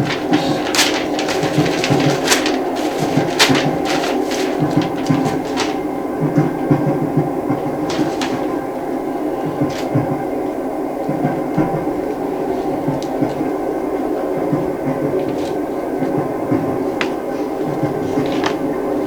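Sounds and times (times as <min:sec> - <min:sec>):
moving train rumbling: 0:00.0 - 0:19.0.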